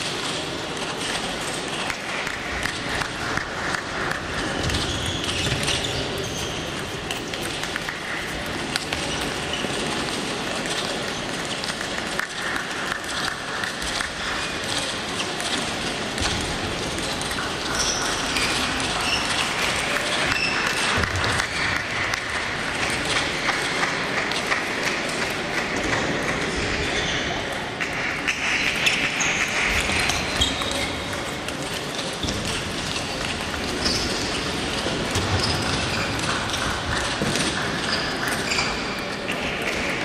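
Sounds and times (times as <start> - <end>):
murmur of voices: 0.0 - 40.0
table tennis balls clicking: 1.0 - 26.5, 28.2 - 40.0.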